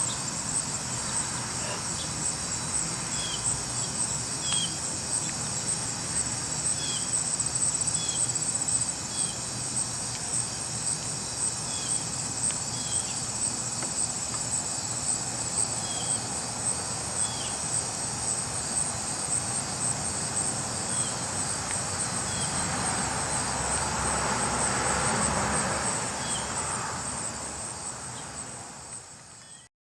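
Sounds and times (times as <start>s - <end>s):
insect chorus trilling: 0.0s - 29.7s.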